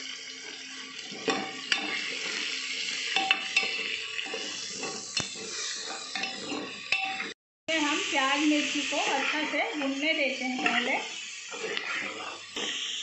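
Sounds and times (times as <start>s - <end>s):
onion sizzling in hot fat: 0.0s - 13.0s
metal ladle scraping a pot: 1.0s - 7.3s, 8.6s - 13.0s.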